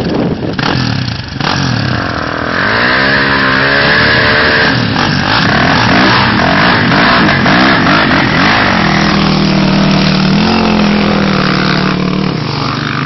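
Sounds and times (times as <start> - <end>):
dirt bike and quad engines revving: 0.0 - 13.0.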